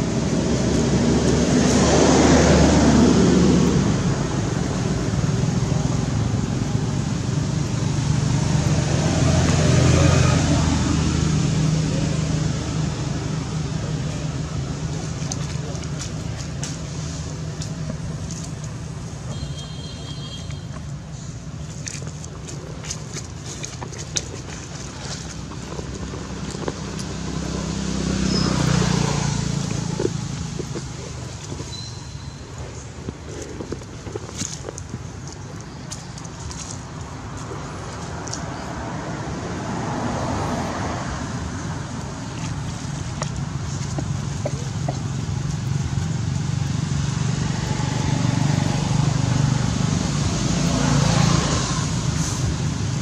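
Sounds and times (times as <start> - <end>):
low engine drone: 0.0 - 53.0.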